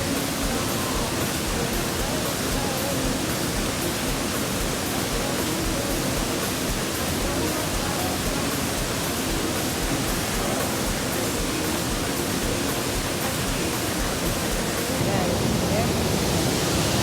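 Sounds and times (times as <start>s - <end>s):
faint voices: 0.0s - 17.0s
waterfall rushing: 0.0s - 17.0s.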